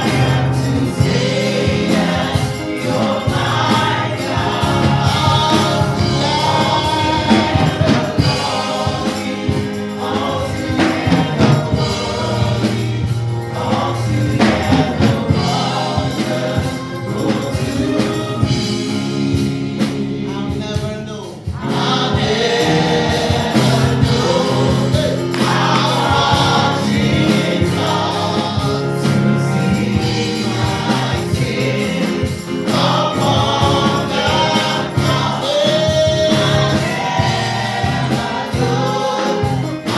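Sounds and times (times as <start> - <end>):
gospel choir singing: 0.0 - 39.9
instrumental backing: 0.0 - 39.9.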